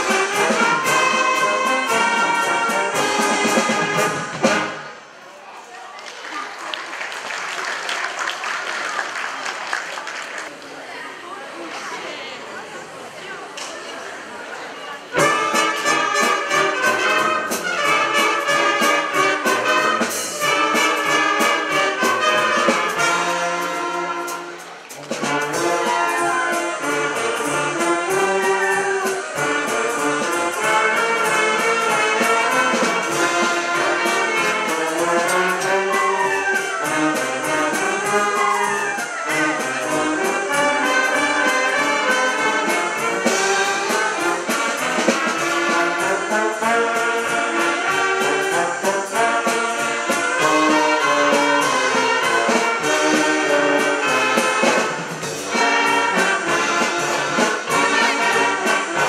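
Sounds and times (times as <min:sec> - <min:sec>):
wind band playing: 0:00.0 - 0:05.2, 0:14.8 - 0:59.0.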